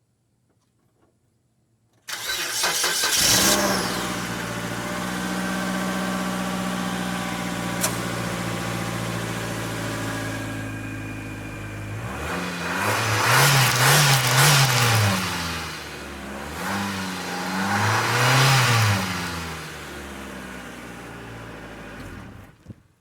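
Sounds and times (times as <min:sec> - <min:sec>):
car engine starting and idling: 0:02.0 - 0:22.6.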